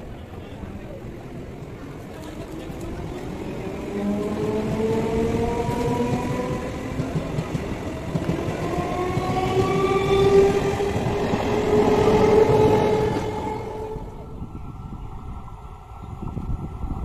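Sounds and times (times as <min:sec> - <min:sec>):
train wheels rumbling on rails: 0:00.8 - 0:17.0.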